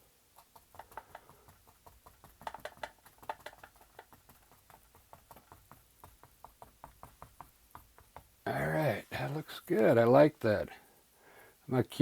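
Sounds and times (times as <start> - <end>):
paintbrush dabbing on canvas: 0.0 - 11.0.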